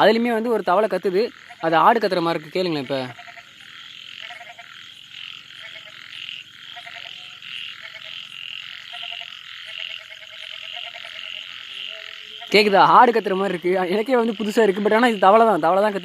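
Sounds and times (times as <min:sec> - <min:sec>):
frog bleating calls: 0:00.0 - 0:16.0
high-pitched frog chorus: 0:00.0 - 0:16.0.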